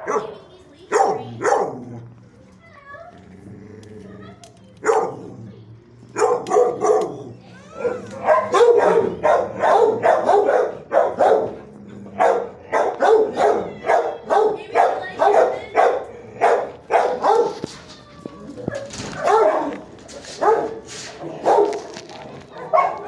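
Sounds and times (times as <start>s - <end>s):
dogs barking: 0.0s - 2.1s, 4.8s - 17.7s, 18.6s - 23.0s.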